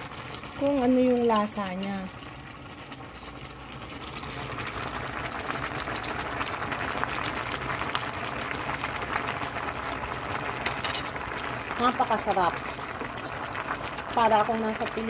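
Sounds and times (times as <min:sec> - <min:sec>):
stew boiling in a pot: 0:00.0 - 0:15.0.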